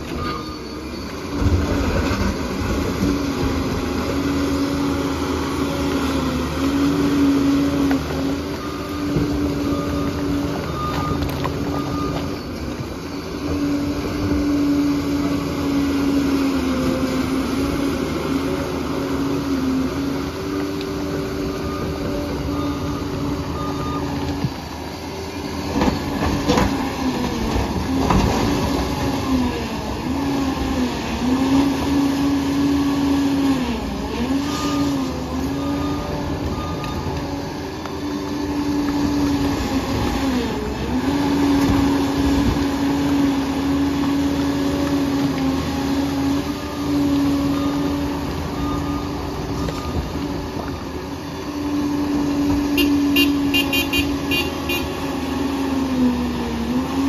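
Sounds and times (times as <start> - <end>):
diesel engine under changing load: 0.0 - 57.0.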